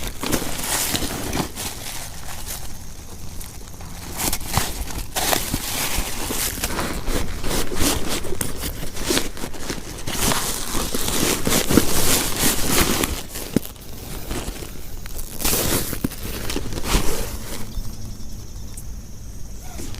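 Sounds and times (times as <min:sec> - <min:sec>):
plastic sheeting crinkling: 0:00.0 - 0:17.7.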